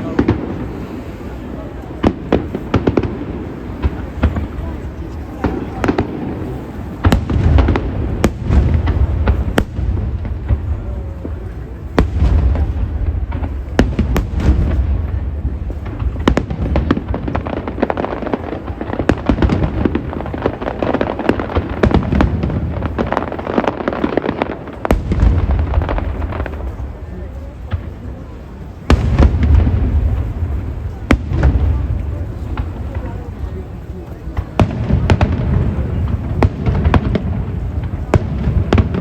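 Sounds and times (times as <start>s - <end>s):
fireworks booming: 0.0s - 39.0s
fireworks crackling and popping: 0.0s - 39.0s.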